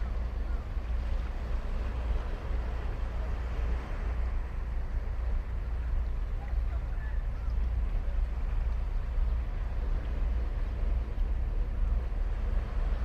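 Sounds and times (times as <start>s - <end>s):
ocean waves on a beach: 0.0s - 13.0s.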